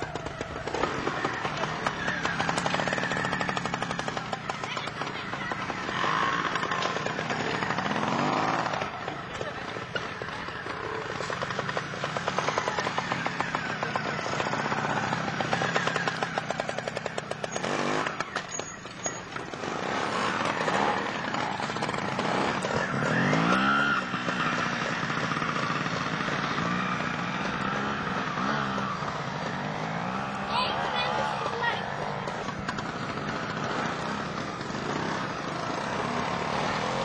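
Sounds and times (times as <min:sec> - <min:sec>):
motorcycle engine popping: 0:00.0 - 0:37.0.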